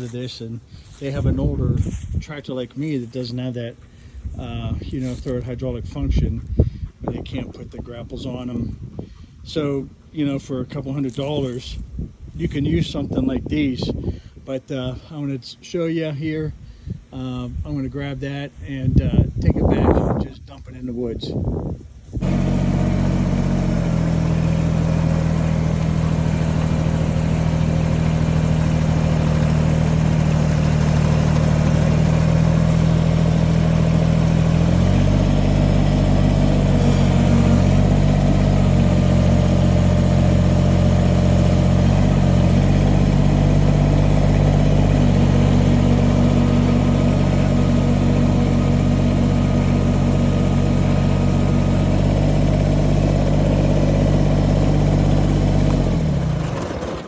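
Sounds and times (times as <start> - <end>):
tractor diesel engine running: 0.0 - 15.2, 22.1 - 57.0.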